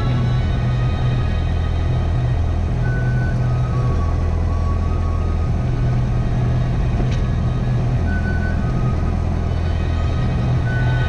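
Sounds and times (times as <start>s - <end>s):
airplane engine and propeller rumble: 0.0s - 11.0s
dark ambient music: 0.0s - 11.0s.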